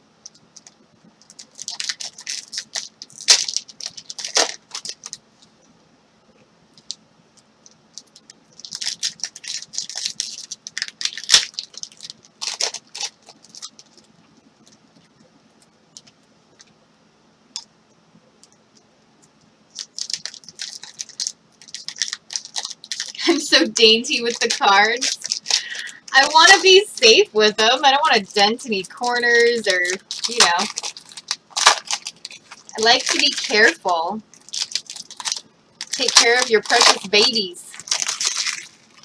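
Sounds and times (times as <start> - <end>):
wrappers crinkling and tearing: 0.5 - 5.3, 7.7 - 15.1, 19.7 - 39.0.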